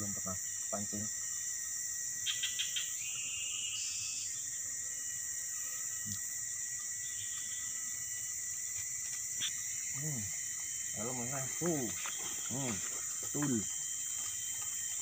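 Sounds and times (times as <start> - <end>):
faint steady tone: 0.0 - 15.0
insect chorus drone: 0.0 - 15.0.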